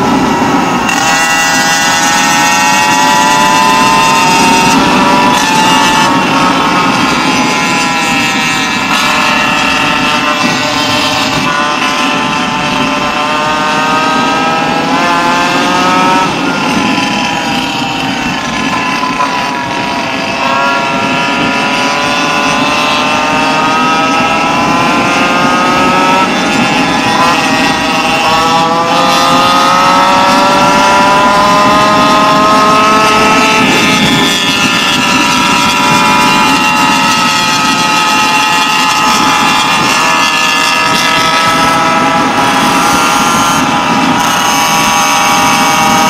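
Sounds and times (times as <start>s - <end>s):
small two-stroke engine revving: 0.0s - 46.0s.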